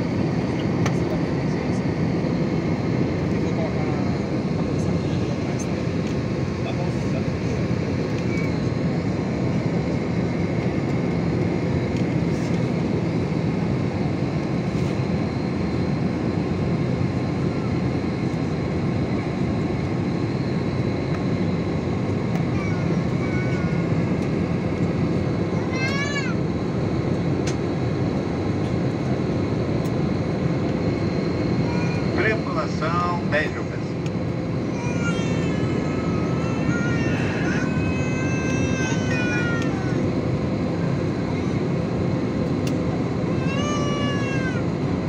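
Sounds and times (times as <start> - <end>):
jet engine and airflow: 0.0 - 45.0.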